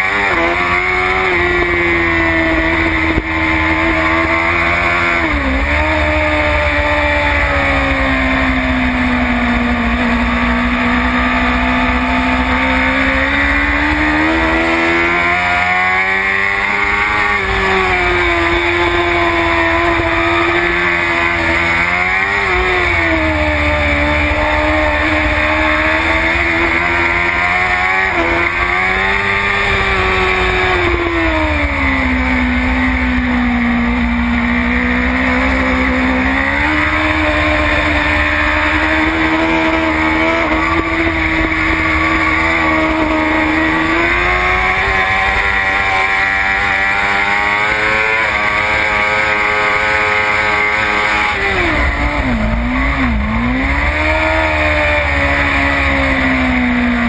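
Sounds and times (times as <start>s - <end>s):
motorcycle engine revving high: 0.0s - 57.0s.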